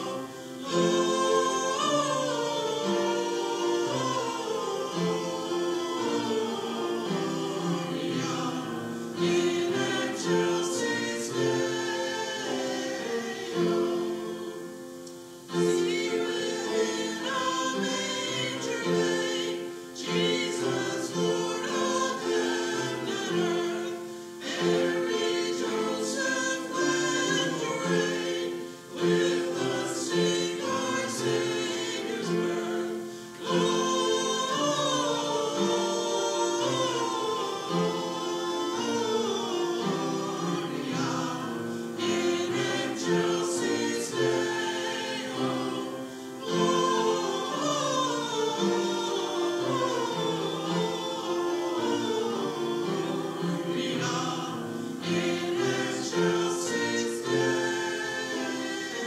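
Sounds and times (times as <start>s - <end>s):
church choir singing: 0.0s - 59.0s.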